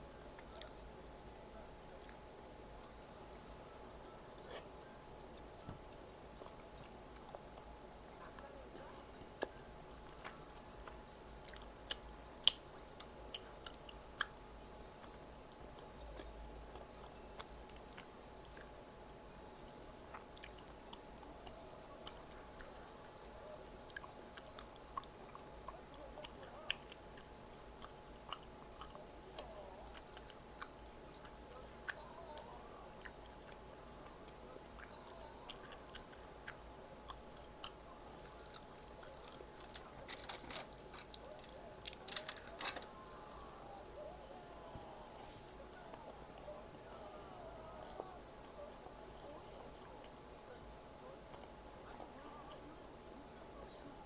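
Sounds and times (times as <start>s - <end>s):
person chewing food: 0.4s - 0.9s, 2.8s - 14.4s, 15.8s - 18.8s, 20.0s - 50.2s.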